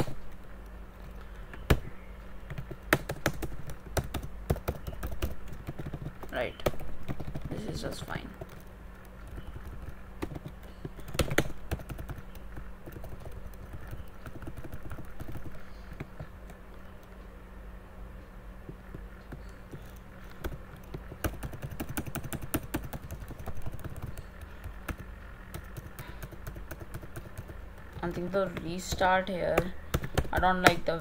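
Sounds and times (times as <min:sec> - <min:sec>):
faint steady hum: 0:00.0 - 0:31.0
computer keyboard keystrokes: 0:02.5 - 0:07.6, 0:08.3 - 0:16.6, 0:18.9 - 0:30.8.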